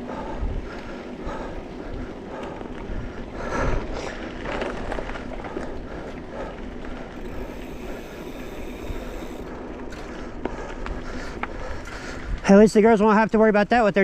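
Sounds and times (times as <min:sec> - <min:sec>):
bike rattles and clicks: 0:00.0 - 0:14.0
bike tyre and wind noise: 0:00.0 - 0:14.0.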